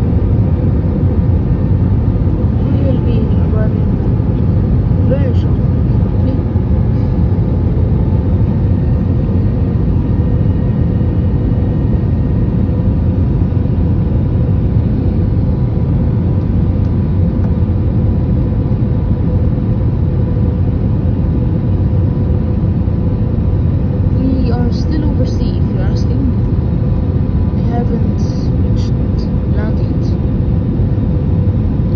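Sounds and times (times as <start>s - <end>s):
faint steady hums: 0.0s - 31.9s
jet engine and airflow rumble: 0.0s - 31.9s.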